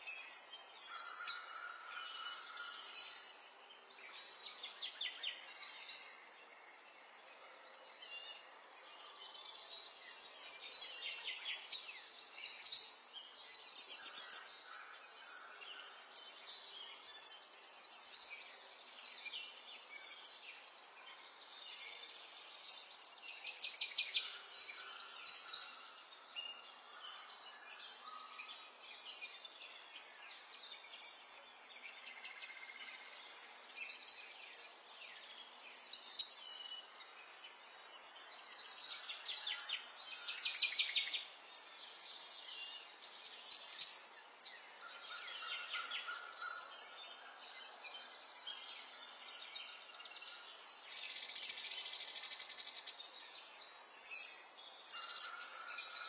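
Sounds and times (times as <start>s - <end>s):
songbirds trilling and chirping: 0.0s - 56.0s.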